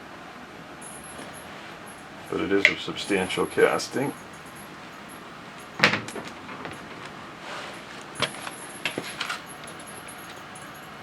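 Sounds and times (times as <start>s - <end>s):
steady low hiss: 0.0s - 11.0s
metal knocks and clinks: 0.8s - 7.1s, 7.8s - 11.0s.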